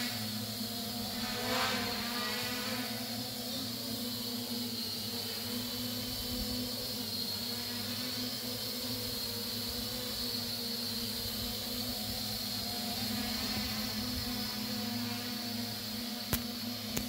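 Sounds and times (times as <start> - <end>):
drone propellers buzzing hum: 0.0 - 17.0.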